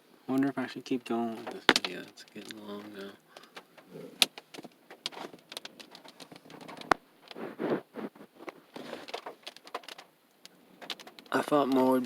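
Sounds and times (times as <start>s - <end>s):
rain pattering on car roof: 0.8s - 7.4s, 8.6s - 12.0s.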